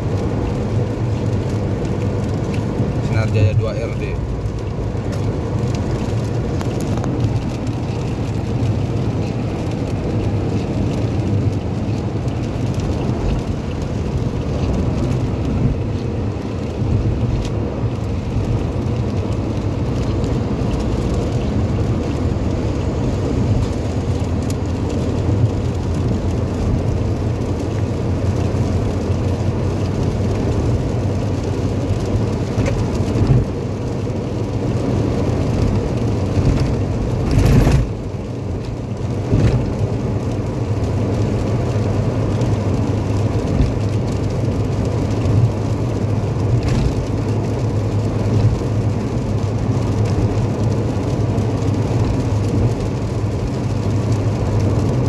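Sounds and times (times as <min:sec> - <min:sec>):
car cabin road and engine noise: 0:00.0 - 0:55.0
rain hitting windscreen: 0:00.0 - 0:55.0
tyres on wet road: 0:00.0 - 0:55.0.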